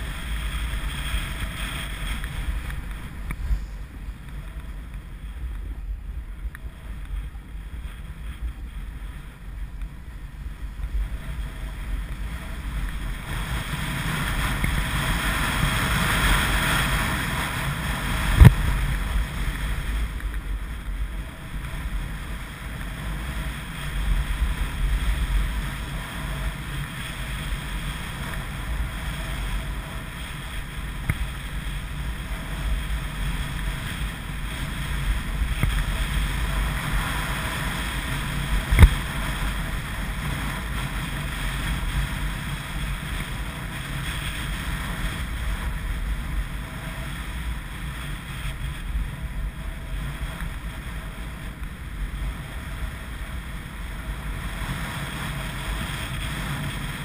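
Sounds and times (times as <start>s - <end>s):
skis sliding on packed snow: 0.0s - 57.0s
wind buffeting microphone: 0.0s - 57.0s.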